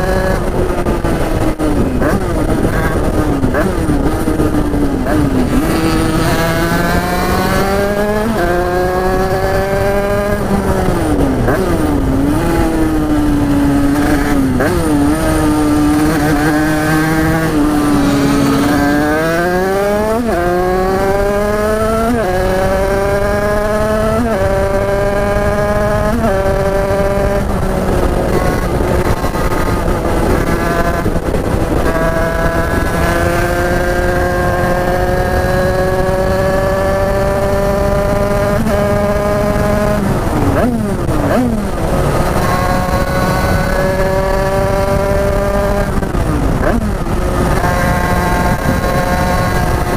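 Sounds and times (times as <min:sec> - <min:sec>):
two-stroke motorcycle engine revving: 0:00.0 - 0:49.9.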